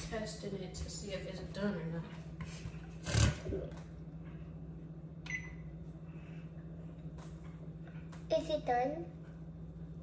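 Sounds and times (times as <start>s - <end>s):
low kitchen hum: 0.0s - 10.0s.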